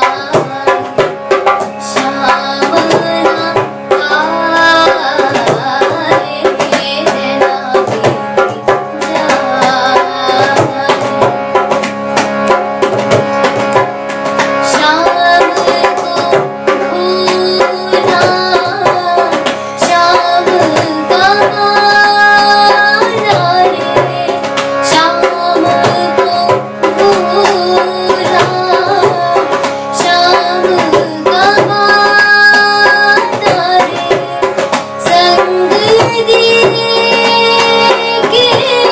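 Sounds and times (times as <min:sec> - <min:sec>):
girl singing: 0:00.0 - 0:11.6, 0:14.7 - 0:38.9
tabla strokes: 0:00.0 - 0:38.9.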